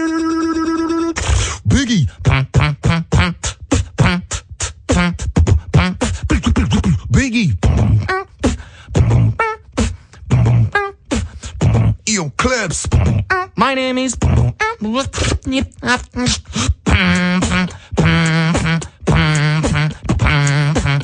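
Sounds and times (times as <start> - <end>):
person beatboxing: 0.0 - 21.0
swooping vocal effects: 0.0 - 21.0.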